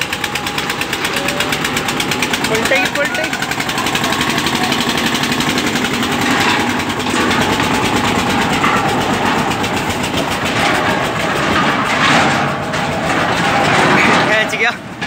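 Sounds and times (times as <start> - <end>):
tractor diesel engines under load: 0.0 - 15.0.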